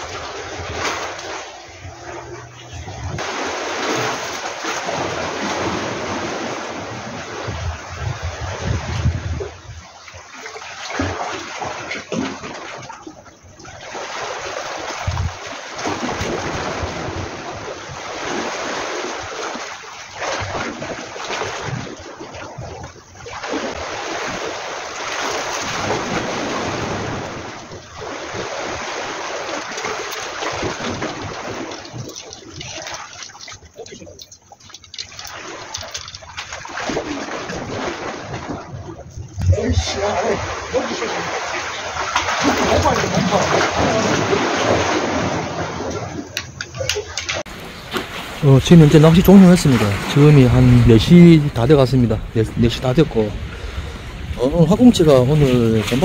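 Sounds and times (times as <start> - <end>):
sea water splashing on breakwater: 0.0 - 56.0.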